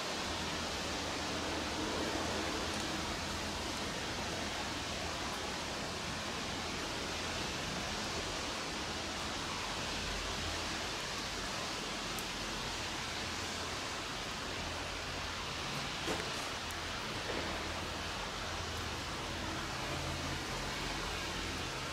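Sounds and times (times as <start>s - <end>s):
light rain hiss: 0.0s - 21.9s.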